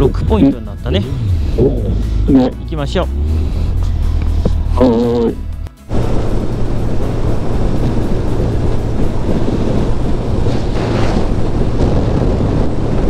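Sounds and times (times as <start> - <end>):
motorcycle engine droning: 0.0 - 13.0
wind rushing over microphone: 0.0 - 13.0.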